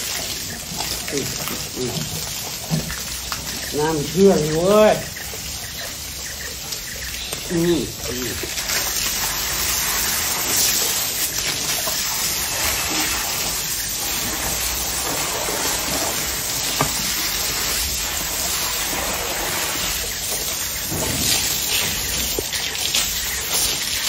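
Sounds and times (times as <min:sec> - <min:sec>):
running water: 0:00.0 - 0:24.0.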